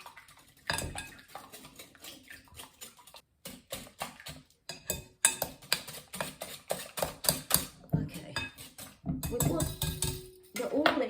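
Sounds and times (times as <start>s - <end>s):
whisk clicking against bowl: 0.7s - 11.0s.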